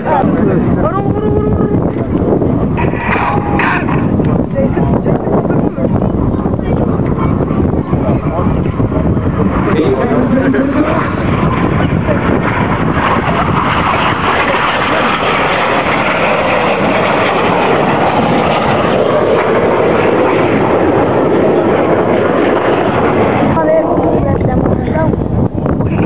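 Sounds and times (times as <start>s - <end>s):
jets flying past: 0.0s - 26.0s.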